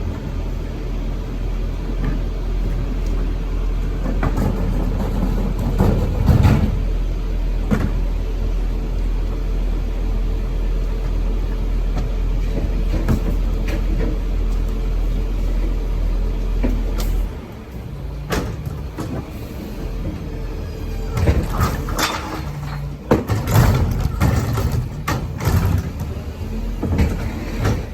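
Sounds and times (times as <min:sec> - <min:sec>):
garbage truck engine rumbling: 0:00.0 - 0:27.9.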